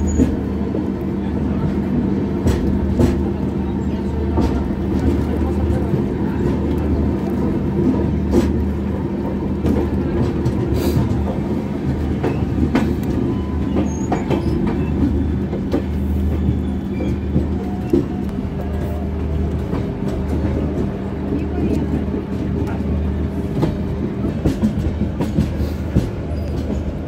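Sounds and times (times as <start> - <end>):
train running on track: 0.0 - 27.0.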